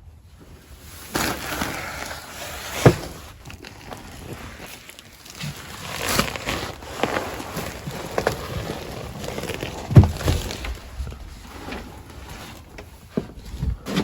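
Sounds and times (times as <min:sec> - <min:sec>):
body scraping through crawl space: 0:00.1 - 0:14.0.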